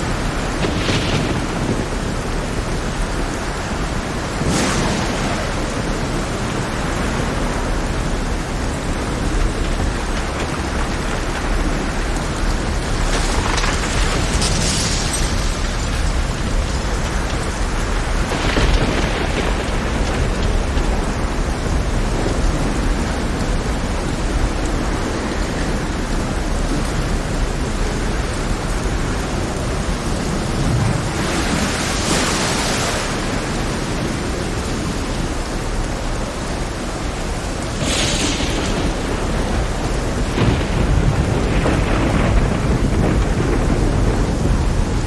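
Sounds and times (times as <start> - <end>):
heavy rain: 0.0 - 45.0
rough sea rumbling: 0.0 - 45.0.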